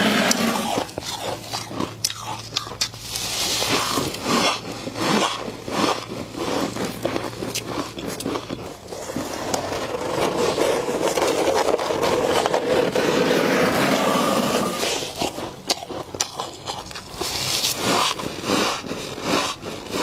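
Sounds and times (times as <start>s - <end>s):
frost scraping and crunching: 0.0s - 20.0s.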